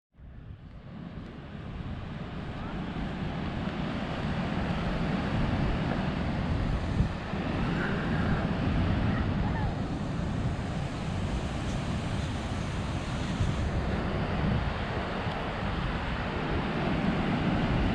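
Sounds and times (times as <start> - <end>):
wind buffeting microphone: 0.2 - 17.9
ocean surf washing on beach: 0.4 - 17.9.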